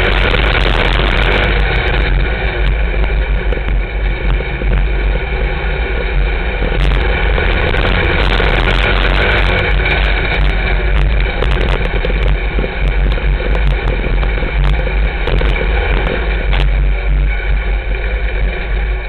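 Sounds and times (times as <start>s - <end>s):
race car engine running hard: 0.0s - 19.0s.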